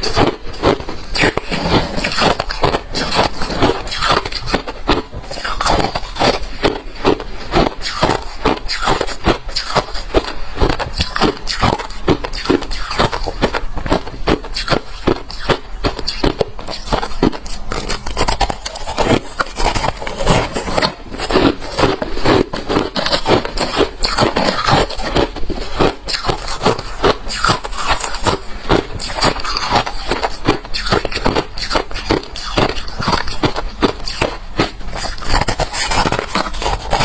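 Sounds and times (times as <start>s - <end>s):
chewing crunchy ice: 0.0s - 37.0s.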